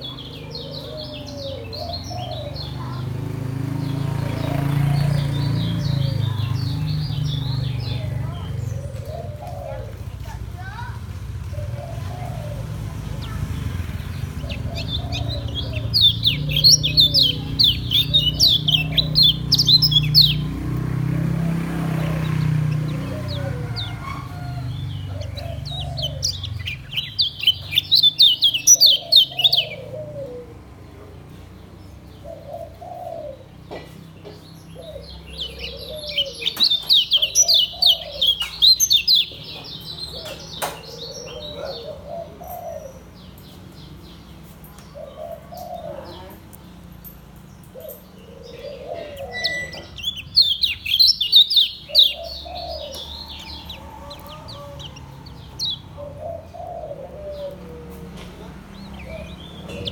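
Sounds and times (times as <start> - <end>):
dove cooing: 0.0 - 46.8, 47.6 - 59.9.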